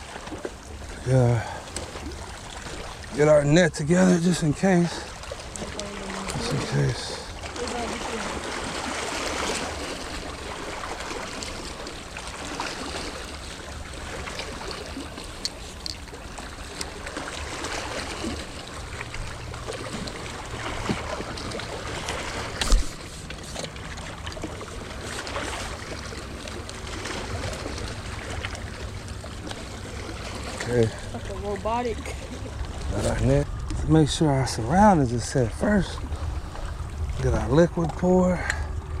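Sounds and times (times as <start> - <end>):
creek water running: 0.0 - 39.0.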